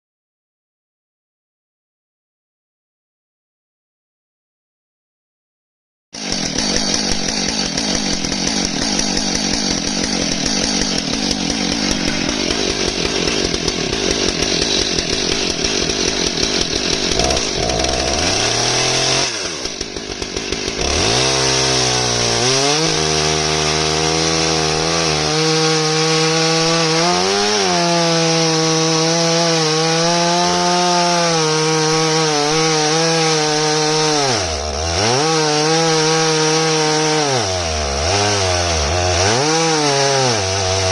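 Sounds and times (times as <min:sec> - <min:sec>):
chainsaw cutting wood: 0:06.2 - 0:40.9.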